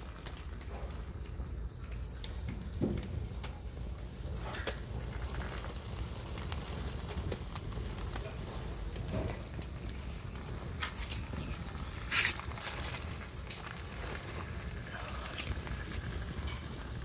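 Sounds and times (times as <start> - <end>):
burning matches crackling: 0.0 - 17.0.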